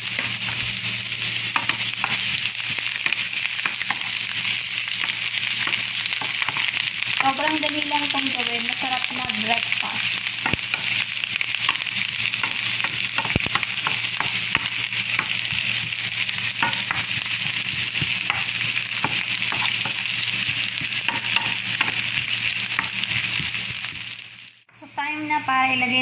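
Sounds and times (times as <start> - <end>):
onion sizzling in hot oil: 0.0 - 26.0.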